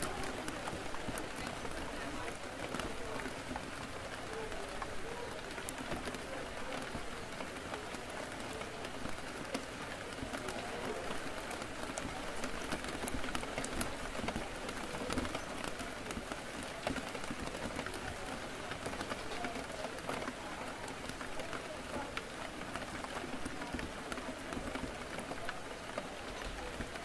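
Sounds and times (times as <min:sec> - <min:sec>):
murmur of cafe chatter: 0:00.0 - 0:27.0
rain on a window: 0:00.0 - 0:27.0.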